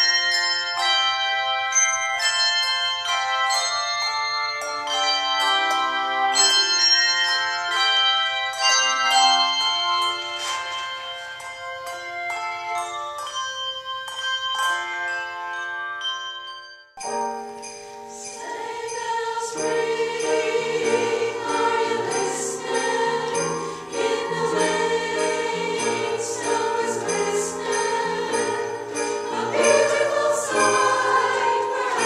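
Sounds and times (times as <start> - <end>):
tuned bells playing a melody: 0.0 - 32.0.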